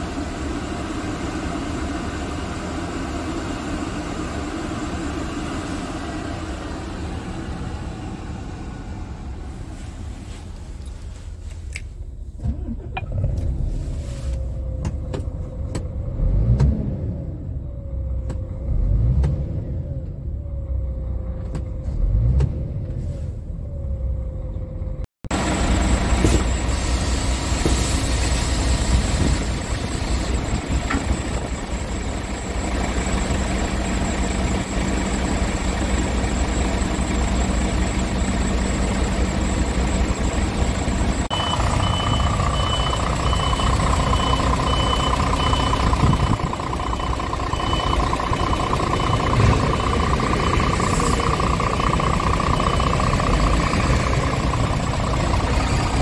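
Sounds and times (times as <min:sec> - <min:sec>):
diesel truck engine idling and revving: 0:00.0 - 0:56.0.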